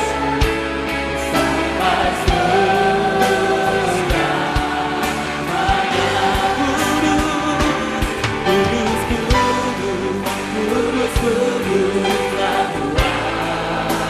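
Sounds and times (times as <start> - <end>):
man singing lead: 0.0 - 14.0
worship band playing: 0.0 - 14.0.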